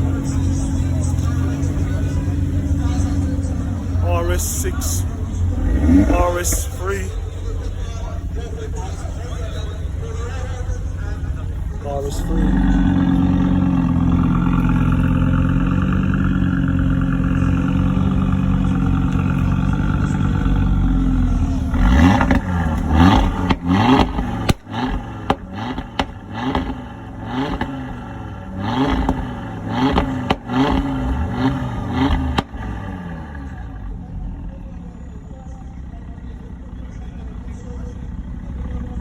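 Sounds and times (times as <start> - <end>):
exhaust cracks: 0.0 - 33.9
car engine idling and revving: 0.0 - 39.0.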